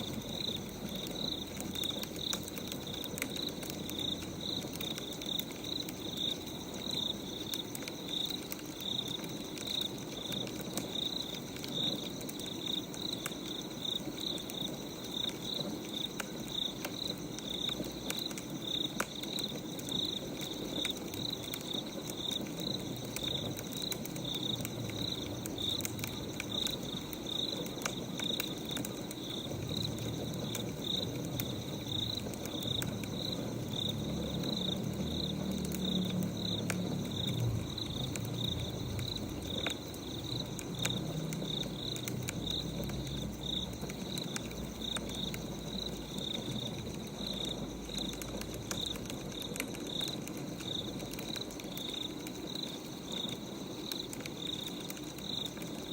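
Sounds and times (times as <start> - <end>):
crickets chirping: 0.0 - 55.9
wood fire crackling: 0.0 - 55.9.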